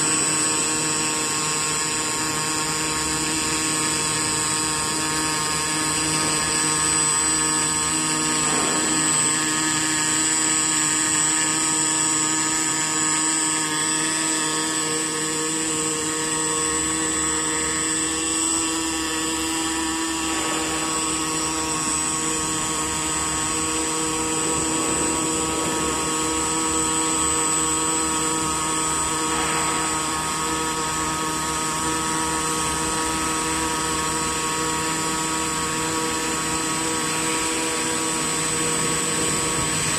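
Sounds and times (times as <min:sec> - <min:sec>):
welding arc buzzing: 0:00.0 - 0:39.9.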